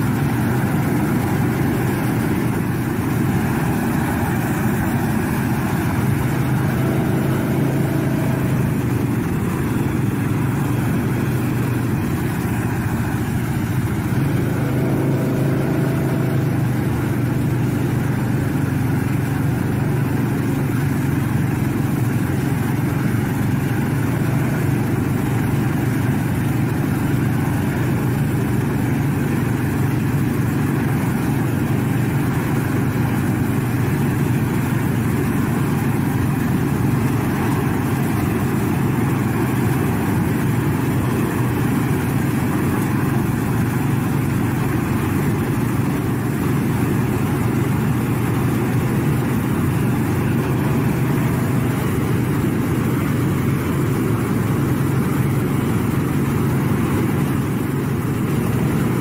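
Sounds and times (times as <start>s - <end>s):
burners rushing: 0.0s - 58.9s
tractor engine running: 0.0s - 59.0s.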